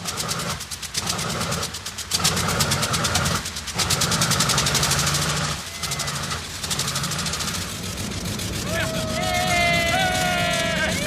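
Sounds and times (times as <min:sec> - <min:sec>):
radial aircraft engine running: 0:00.0 - 0:11.0.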